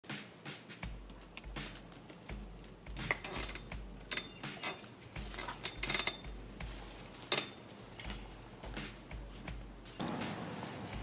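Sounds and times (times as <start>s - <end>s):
background music bass: 0.0s - 11.0s.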